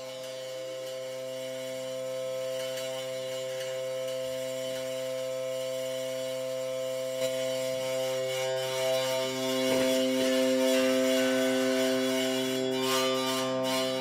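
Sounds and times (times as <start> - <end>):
low droning note: 0.0 - 14.0.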